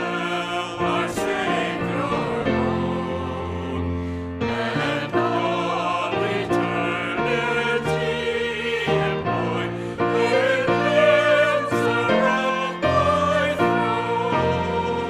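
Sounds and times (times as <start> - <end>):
keyboard accompaniment: 0.0 - 15.0
voices singing a hymn: 0.0 - 15.0.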